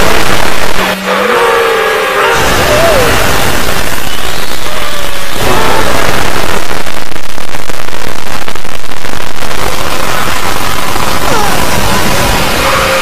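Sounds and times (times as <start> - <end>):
loud distorted noise: 0.0 - 13.0.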